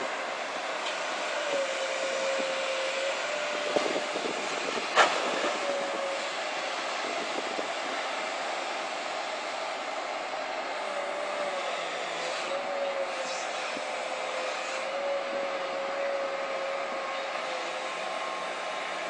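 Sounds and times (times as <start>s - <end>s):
excavator engine and hydraulics drone: 0.0s - 19.0s.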